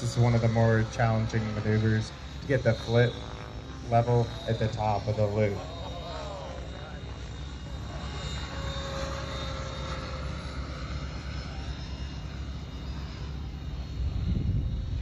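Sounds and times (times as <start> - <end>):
faint motor whine: 0.0 - 15.0
model helicopter rotor drone: 0.0 - 15.0.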